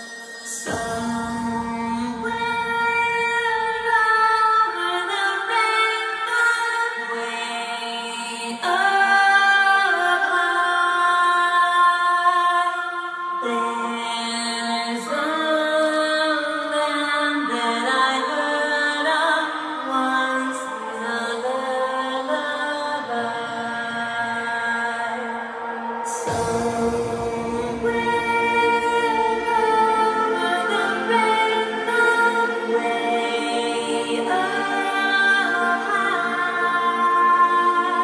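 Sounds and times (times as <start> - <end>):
choir-like sung chords: 0.0 - 38.0.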